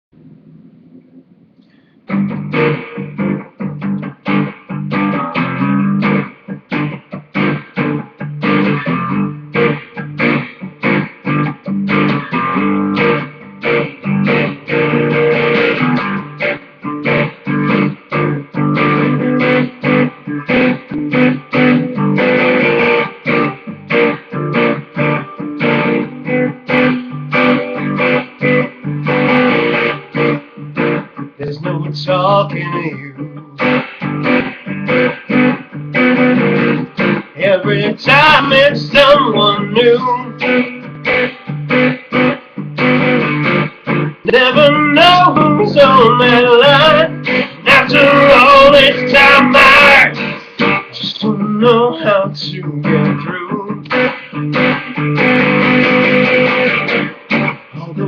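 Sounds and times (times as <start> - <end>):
guitar strummed: 0.2 - 58.0.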